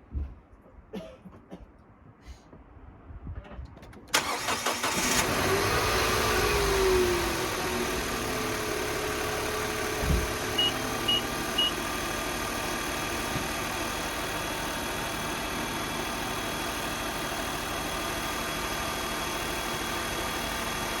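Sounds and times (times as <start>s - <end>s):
car engine idling: 4.2s - 21.0s.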